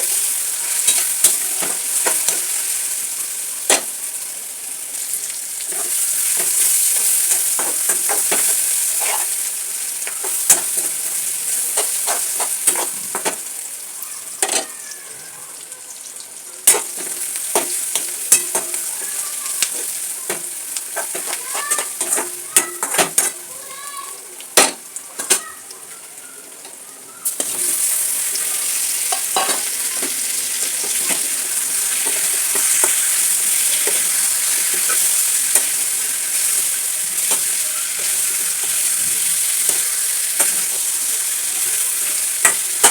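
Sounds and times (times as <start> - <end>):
spoon scraping a pan: 0.0 - 3.0, 5.6 - 13.5, 14.4 - 14.9, 16.6 - 23.5, 24.6 - 26.0, 26.6 - 42.9
curry sizzling in a pan: 0.0 - 42.9.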